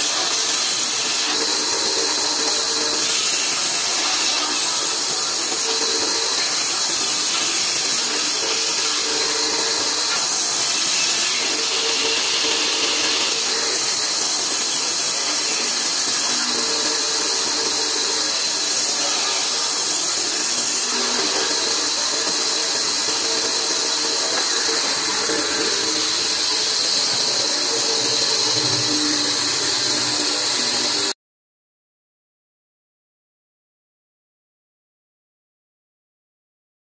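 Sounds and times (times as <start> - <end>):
bandsaw cutting planks: 0.0 - 31.2.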